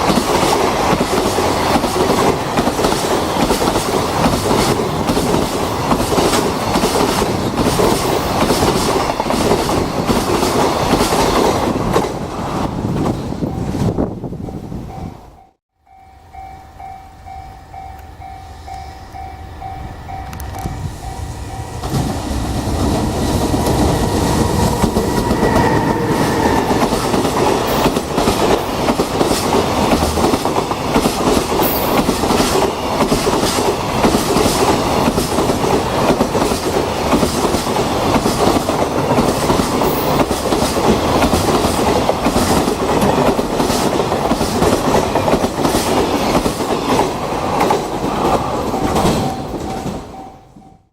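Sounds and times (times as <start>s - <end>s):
freight train rumbling: 0.0s - 15.6s, 16.2s - 50.9s.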